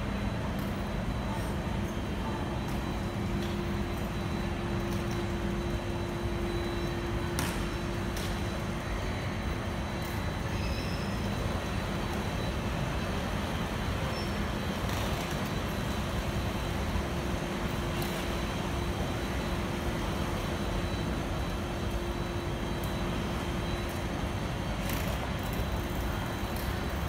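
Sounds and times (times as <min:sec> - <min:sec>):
mechanical rumble and hum: 0:00.0 - 0:27.0.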